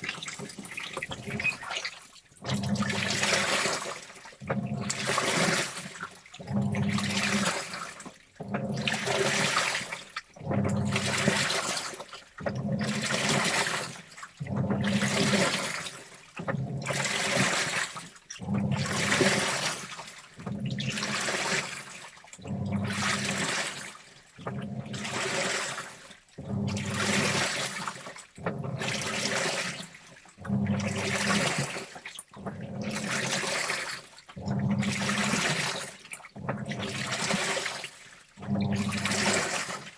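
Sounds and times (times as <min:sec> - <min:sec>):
washing machine motor hum: 0:00.0 - 0:39.9
water sloshing in washing machine drum: 0:00.0 - 0:39.9.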